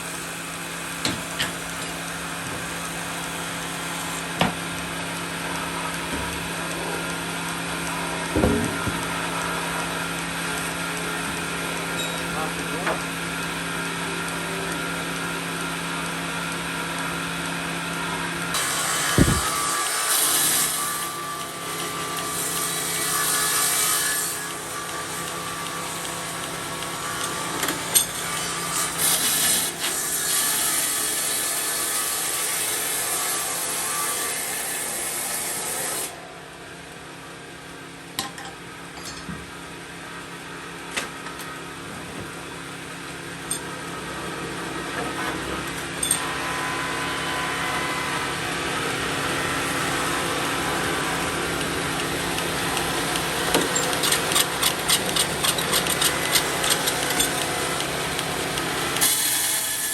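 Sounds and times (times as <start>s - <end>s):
power saw cutting wood: 0.0s - 36.4s, 41.3s - 59.9s.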